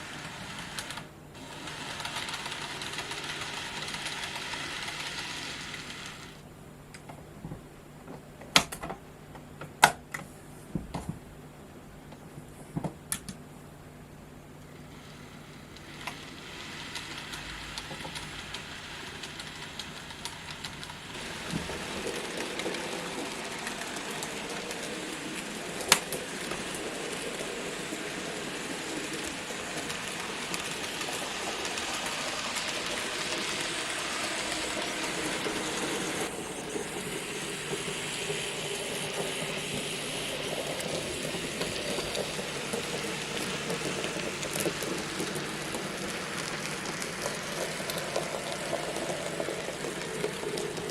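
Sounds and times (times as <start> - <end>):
locomotive motor whirr: 0.0 - 6.4, 14.7 - 50.9
model train wheels rattling on track: 0.0 - 6.4, 15.6 - 50.9.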